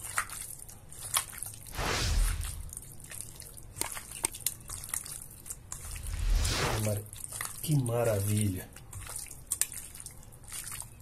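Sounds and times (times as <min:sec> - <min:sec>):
wet squelching of meat mixed by hand: 0:00.0 - 0:01.8, 0:02.6 - 0:06.1, 0:07.1 - 0:11.0.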